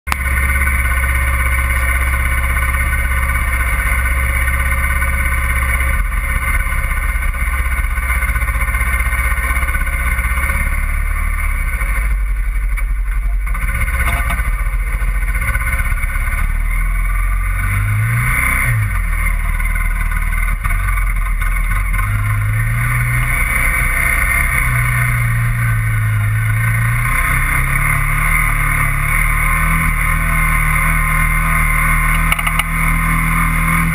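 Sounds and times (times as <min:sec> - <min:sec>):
small vehicle engine running: 0:00.1 - 0:33.9.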